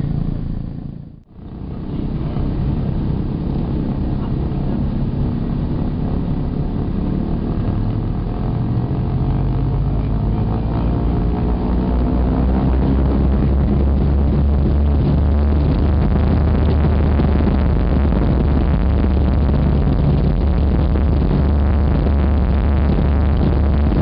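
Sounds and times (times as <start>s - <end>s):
propeller aircraft engines droning: 0.0s - 24.0s.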